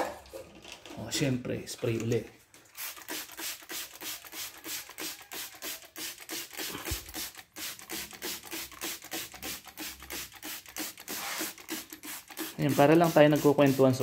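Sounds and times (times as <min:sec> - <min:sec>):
hand scrubbing engine bay: 0:02.8 - 0:14.0.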